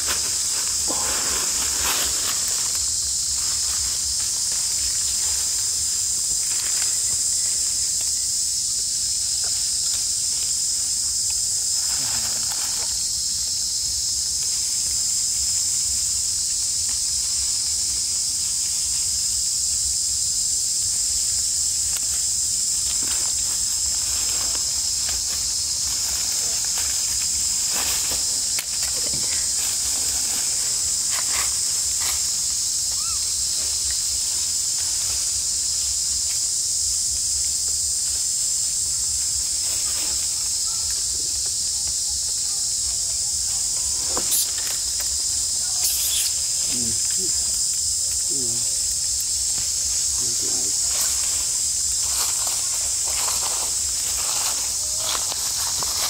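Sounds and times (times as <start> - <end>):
insects droning: 0.0 - 56.0
rustles in dry leaves: 0.0 - 56.0.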